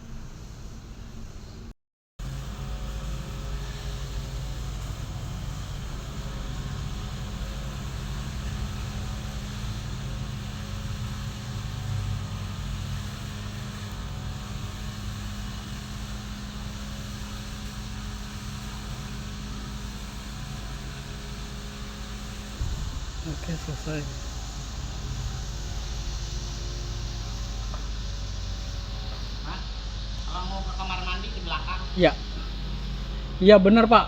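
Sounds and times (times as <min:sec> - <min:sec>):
low motor hum: 0:02.2 - 0:34.0.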